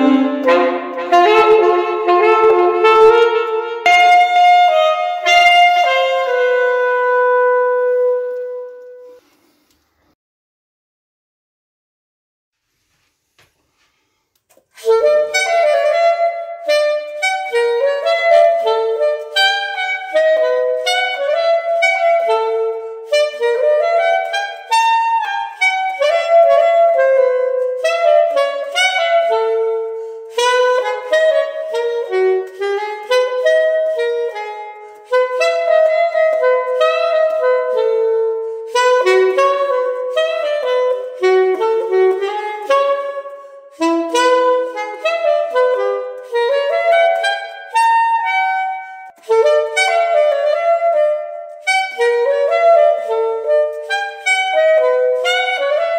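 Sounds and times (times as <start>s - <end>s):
jazz on reed wind instruments: 0.0s - 9.6s, 14.6s - 55.9s.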